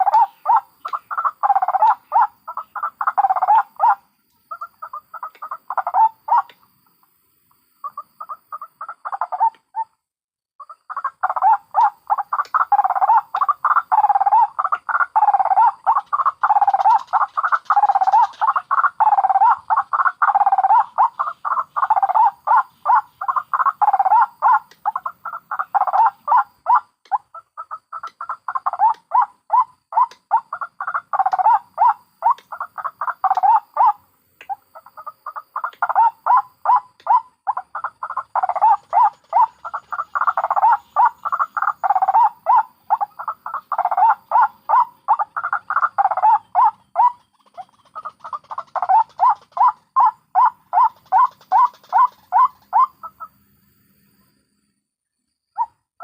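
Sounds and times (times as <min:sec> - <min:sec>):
waterhens croaking calls: 0:00.0 - 0:06.7, 0:07.8 - 0:10.0, 0:10.6 - 0:53.4.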